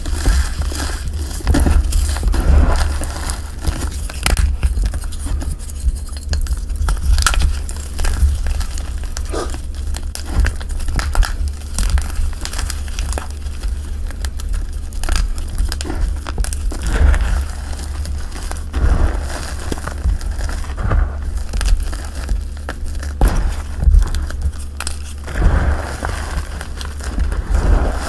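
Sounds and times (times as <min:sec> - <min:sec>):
powder crunching by hand: 0:00.0 - 0:28.0
steady low rumble: 0:00.0 - 0:28.0.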